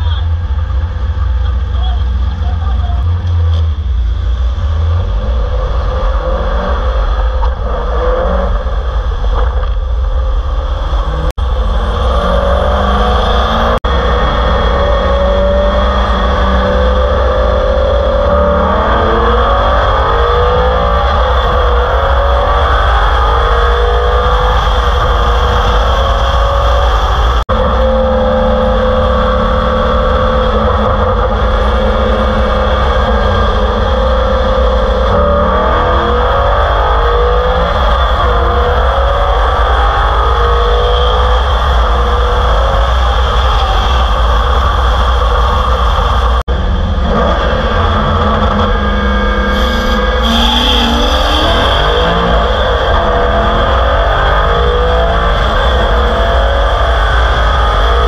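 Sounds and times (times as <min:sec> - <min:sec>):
car engine revving: 0:00.0 - 0:58.0
wind rush: 0:03.8 - 0:58.0.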